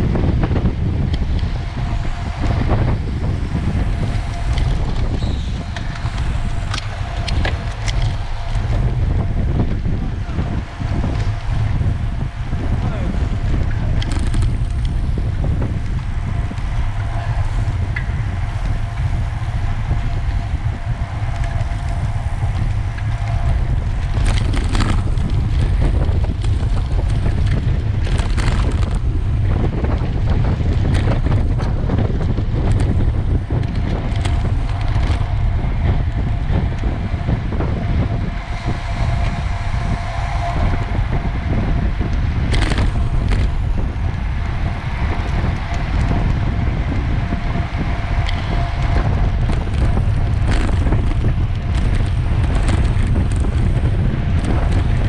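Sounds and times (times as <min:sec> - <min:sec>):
faint steady hum: 0:00.0 - 0:55.0
wind buffeting microphone: 0:00.0 - 0:55.0
bicycle rattling clicks: 0:00.1 - 0:40.8, 0:41.6 - 0:55.0.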